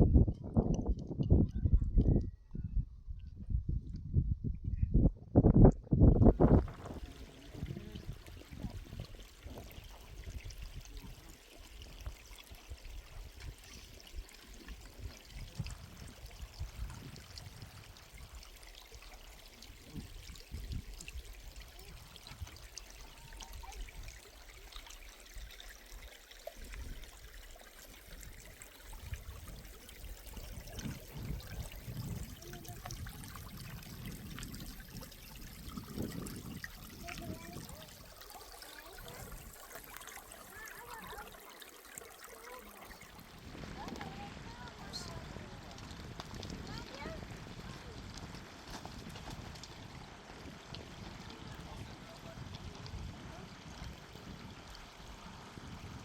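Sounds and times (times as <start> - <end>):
water trickling: 6.2 - 56.0.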